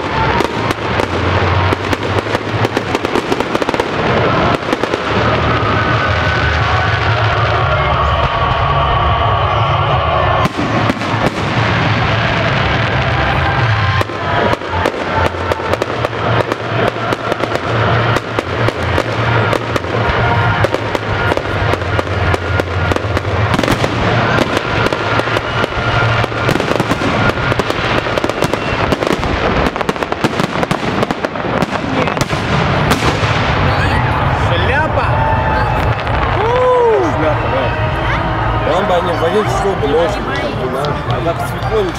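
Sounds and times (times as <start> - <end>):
fireworks crackling: 0.0 - 41.9
low drone: 0.0 - 41.9.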